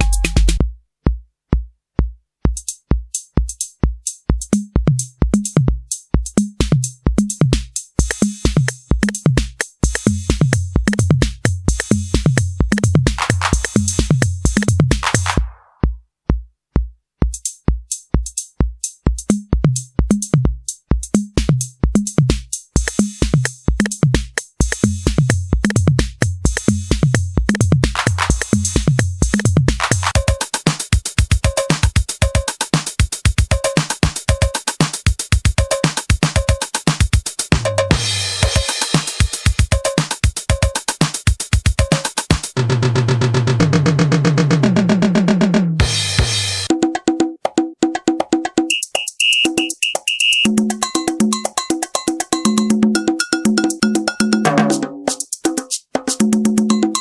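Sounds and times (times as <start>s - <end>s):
drum machine beat: 0.0s - 57.0s.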